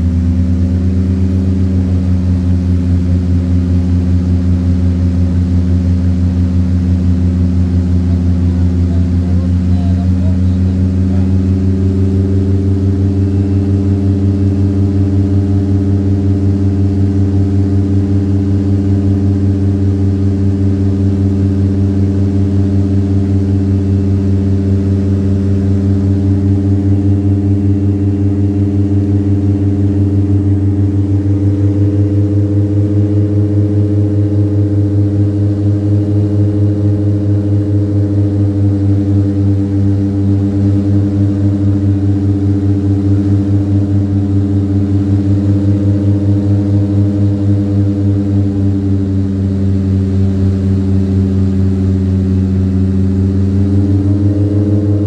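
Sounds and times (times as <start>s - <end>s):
turboprop engines droning: 0.0s - 55.0s.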